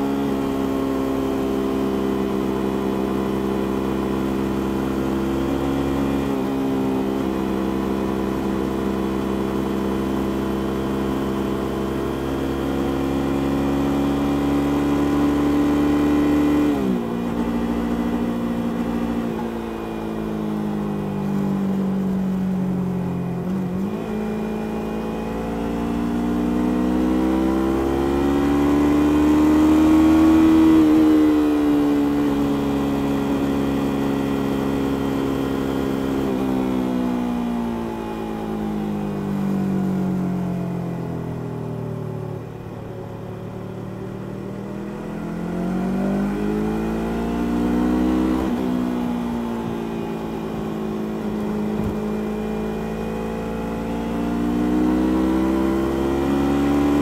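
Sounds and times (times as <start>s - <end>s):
motorcycle engine and exhaust: 0.0s - 57.0s.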